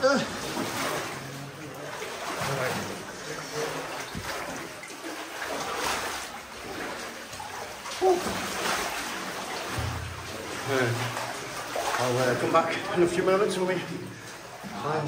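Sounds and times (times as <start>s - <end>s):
water splashing around wading legs: 0.0s - 15.0s.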